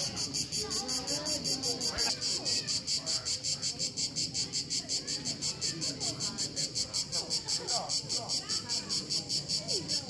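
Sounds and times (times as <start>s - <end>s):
cicadas buzzing: 0.0s - 10.0s.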